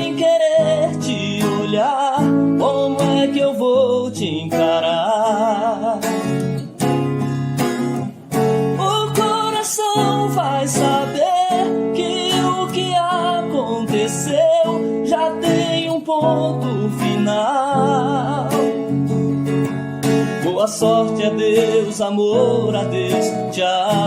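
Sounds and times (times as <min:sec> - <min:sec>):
person singing with vibrato: 0:00.0 - 0:07.5, 0:08.4 - 0:19.2, 0:20.2 - 0:24.0
acoustic guitar strumming: 0:00.0 - 0:24.0.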